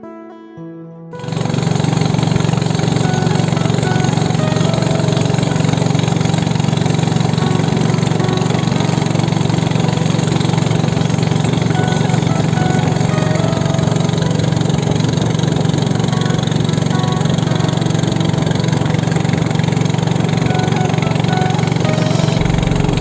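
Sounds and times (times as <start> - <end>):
small boat engine running: 1.2 - 23.0.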